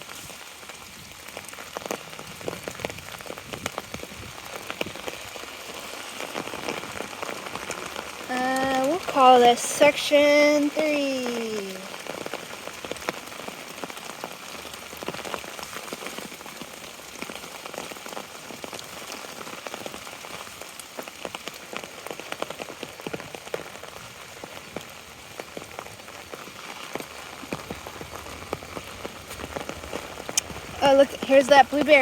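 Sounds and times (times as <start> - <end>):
rain pattering on umbrella: 0.0 - 32.0.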